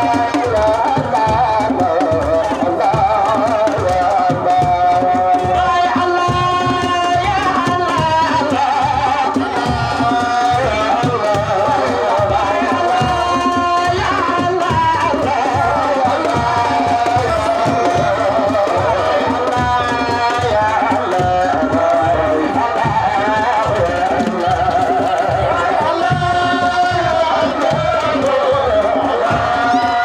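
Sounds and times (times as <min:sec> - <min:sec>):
man singing a religious chant: 0:00.0 - 0:30.0
steady drum beats: 0:00.0 - 0:30.0.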